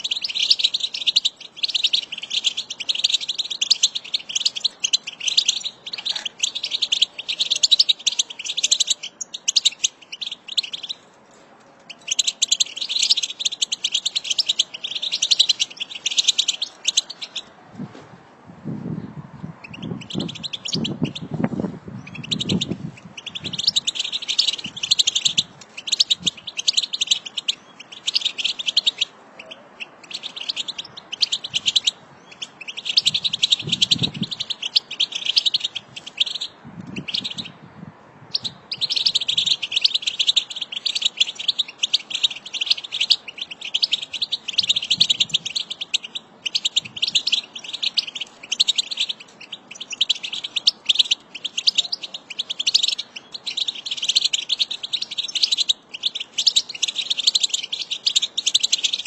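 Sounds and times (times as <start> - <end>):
finches twittering: 0.0 - 11.0, 11.9 - 17.5, 19.6 - 21.4, 22.0 - 37.6, 38.3 - 59.0.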